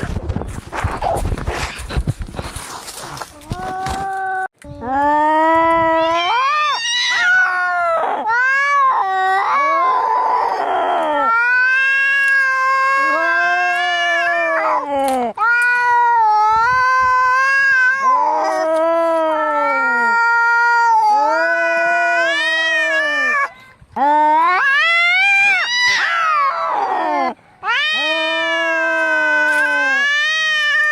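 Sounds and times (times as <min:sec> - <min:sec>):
cats yowling in a fight: 0:05.8 - 0:30.9.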